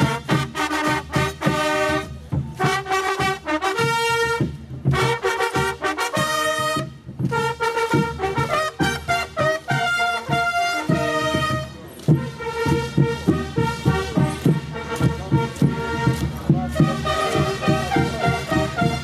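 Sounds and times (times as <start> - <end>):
steady drum strikes: 0.0 - 19.0
trumpets playing fanfare: 0.0 - 19.0.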